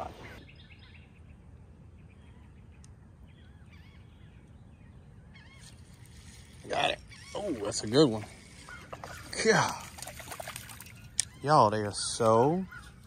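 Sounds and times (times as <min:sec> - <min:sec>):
distant birds warbling: 0:00.0 - 0:13.0.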